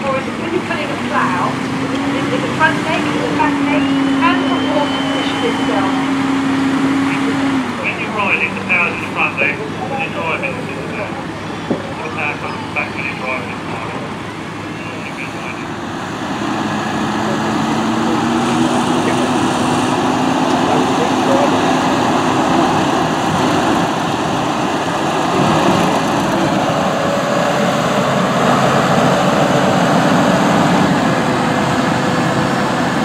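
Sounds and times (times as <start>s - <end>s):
tractor diesel engines running: 0.0s - 33.0s.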